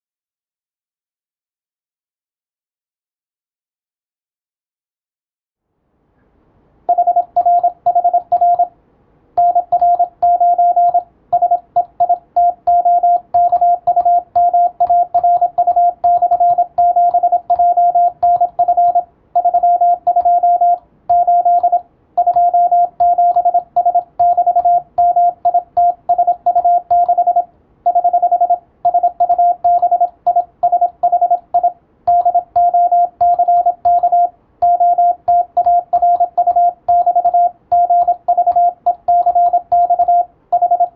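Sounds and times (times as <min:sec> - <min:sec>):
morse code tone: 0:06.9 - 0:08.7, 0:09.4 - 0:40.9.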